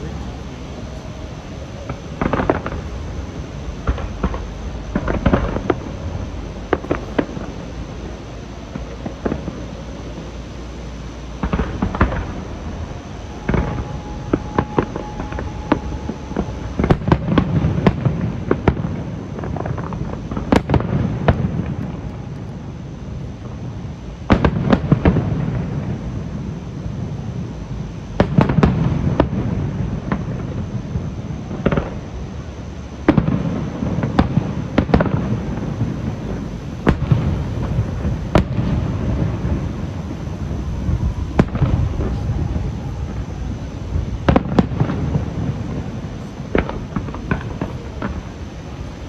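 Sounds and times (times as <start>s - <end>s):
fireworks bursting and booming: 0.0s - 27.4s, 28.1s - 49.0s
low rumble: 0.0s - 31.0s, 33.6s - 49.0s.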